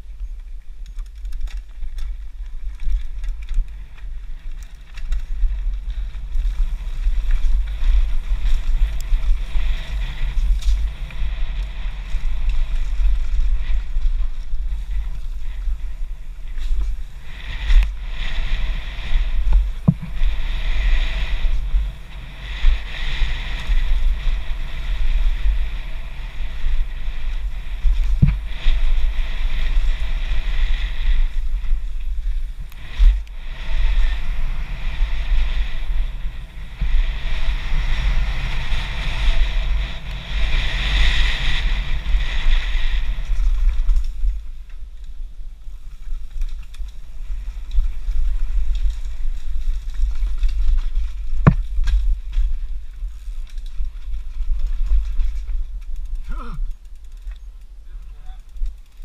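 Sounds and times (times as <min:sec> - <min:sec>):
wind buffeting microphone: 0:00.0 - 0:59.0
bike knocking on bumps: 0:00.2 - 0:44.8, 0:45.9 - 0:59.0.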